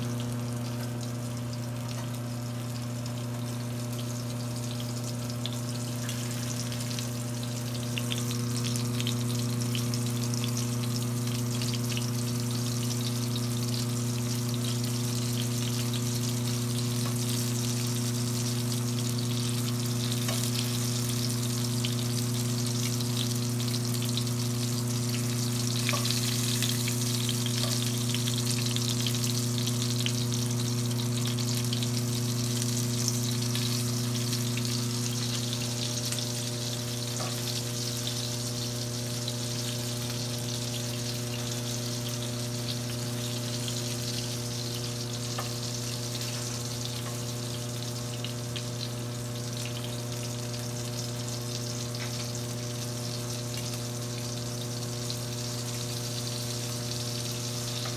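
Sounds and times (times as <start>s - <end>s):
food frying in hot oil: 0.0s - 57.9s
steady low hum: 0.0s - 57.9s.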